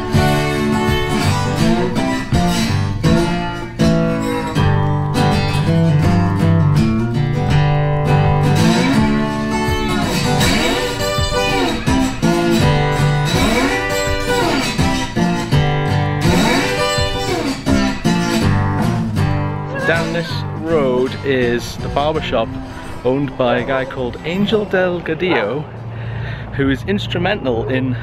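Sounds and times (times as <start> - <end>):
guitar background music: 0.0 - 27.9.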